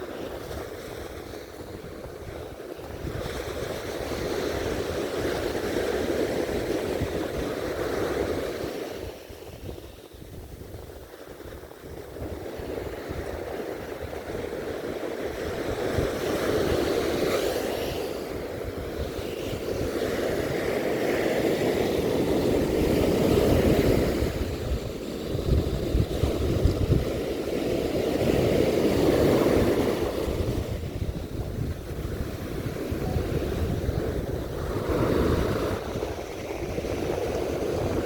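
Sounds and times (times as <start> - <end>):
sea waves breaking on beach: 0.0 - 38.0
wind buffeting microphone: 0.0 - 38.0.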